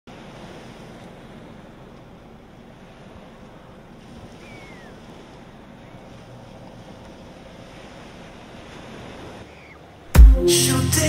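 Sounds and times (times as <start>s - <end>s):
small waves washing onto beach: 0.1s - 10.2s.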